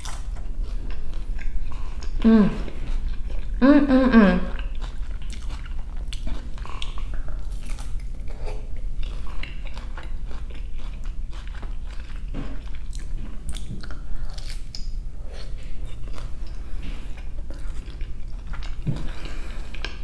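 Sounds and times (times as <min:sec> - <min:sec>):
crunchy chewing: 0:00.0 - 0:03.6, 0:04.5 - 0:20.0.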